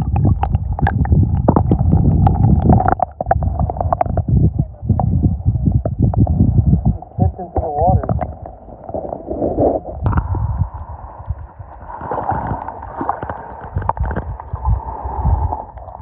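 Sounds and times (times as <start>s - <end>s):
dull low thumps: 0.0s - 8.6s, 9.5s - 12.6s, 13.6s - 16.0s
water swishing and gurgling: 0.0s - 16.0s.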